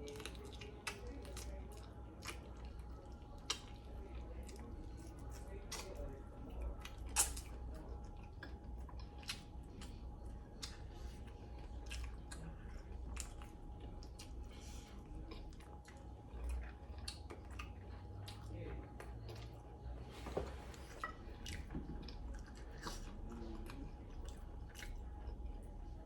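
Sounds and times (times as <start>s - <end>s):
person chewing chicken wings: 0.0s - 19.6s, 21.0s - 25.7s
faint steady hum: 0.0s - 26.0s.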